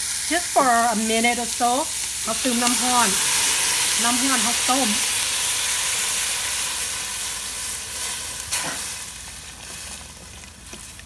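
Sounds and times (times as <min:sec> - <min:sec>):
hot water pouring into pot: 0:00.0 - 0:11.0
oil sizzling: 0:00.0 - 0:11.0.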